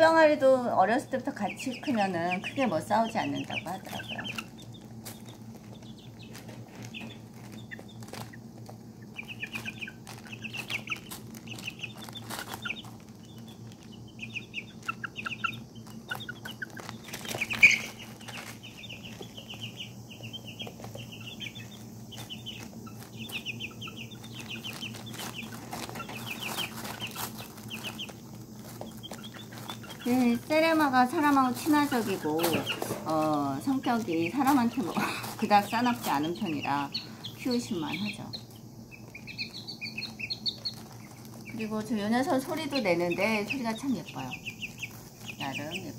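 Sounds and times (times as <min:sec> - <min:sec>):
chicks peeping: 0:00.0 - 0:45.9
steady low hum: 0:00.0 - 0:45.9.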